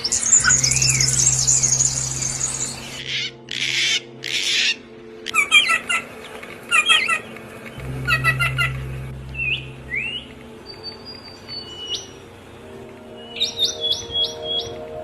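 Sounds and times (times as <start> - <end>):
small birds calling: 0.0 - 15.0.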